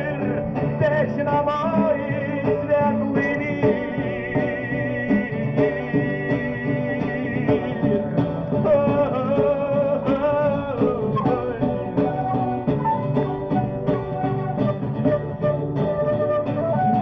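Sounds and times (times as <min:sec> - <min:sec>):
guitar: 0:00.0 - 0:17.0.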